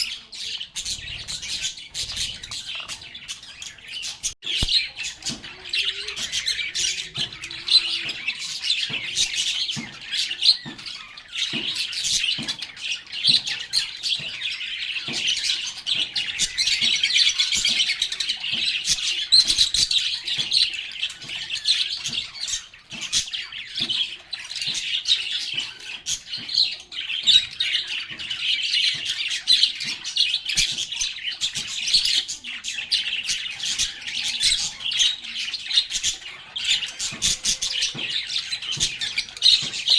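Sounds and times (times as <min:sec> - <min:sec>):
lovebirds chattering and chirping: 0:00.0 - 0:39.9.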